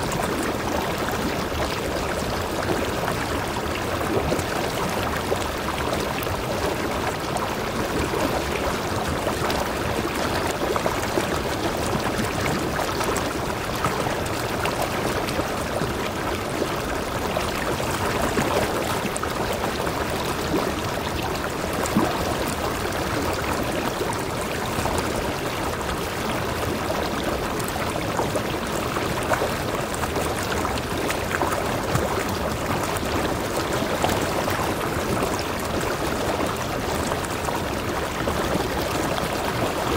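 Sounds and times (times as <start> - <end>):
stream cascading into pool: 0.0 - 39.9.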